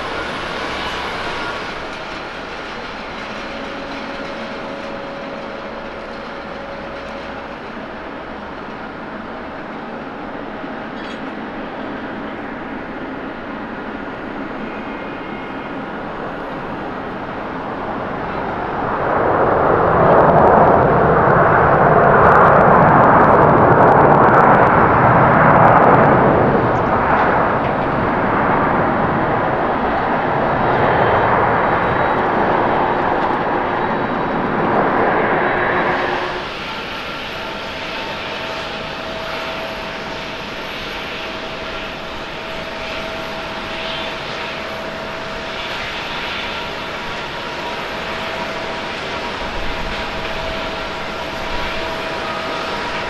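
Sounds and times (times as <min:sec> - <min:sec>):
jet engines humming with whine: 0:00.0 - 0:53.0
jet engines roaring: 0:00.0 - 0:53.0.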